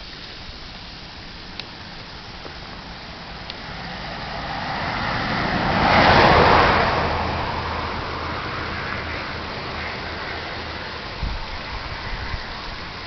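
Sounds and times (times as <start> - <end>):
road vehicle passing: 1.0 - 13.0.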